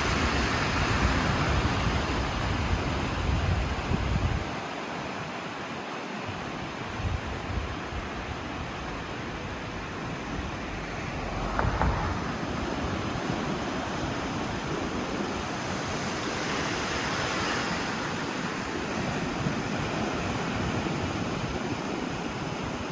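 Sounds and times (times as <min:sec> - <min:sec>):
wind buffeting microphone: 0:00.0 - 0:04.6, 0:06.8 - 0:22.8.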